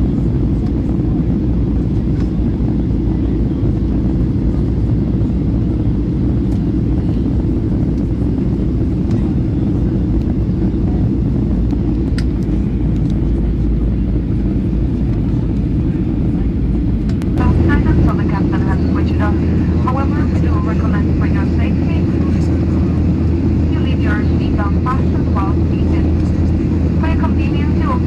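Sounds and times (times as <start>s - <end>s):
jet engine cabin rumble: 0.0s - 28.0s.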